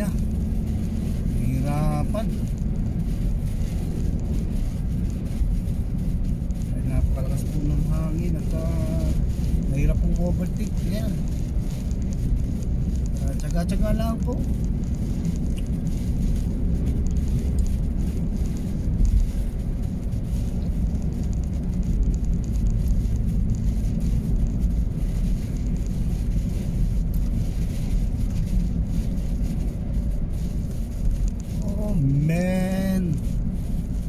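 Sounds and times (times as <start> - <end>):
engine and tyre rumble in cab: 0.0 - 34.0.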